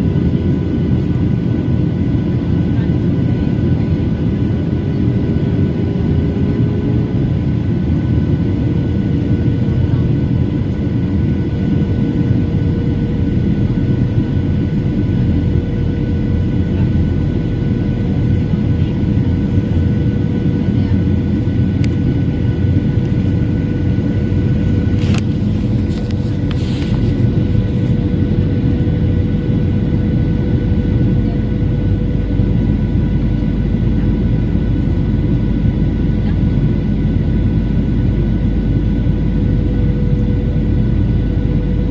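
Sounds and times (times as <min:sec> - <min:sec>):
airliner cabin rumble: 0:00.0 - 0:41.9
steady hum: 0:00.0 - 0:41.9.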